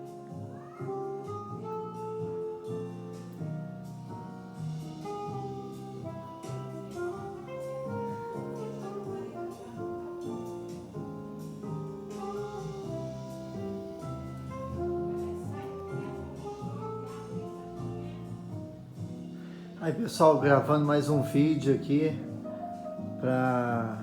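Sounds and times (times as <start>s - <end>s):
instrumental background music: 0.0s - 24.0s.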